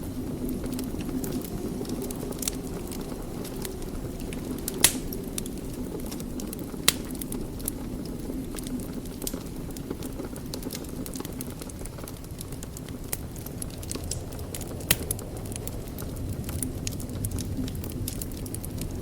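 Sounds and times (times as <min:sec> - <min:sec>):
fire pops and snaps: 0:00.0 - 0:19.0
wood fire crackling: 0:00.0 - 0:19.0.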